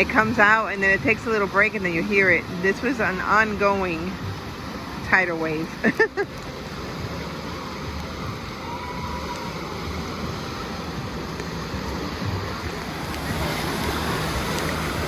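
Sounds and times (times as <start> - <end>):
waves splashing in pool: 0.0 - 15.0.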